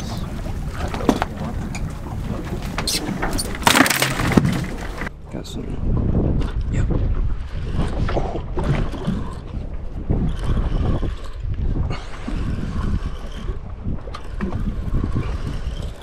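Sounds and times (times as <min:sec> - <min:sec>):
water sloshing against boat hull: 0:00.0 - 0:05.2, 0:05.8 - 0:16.0
wind buffeting microphone: 0:00.0 - 0:16.0.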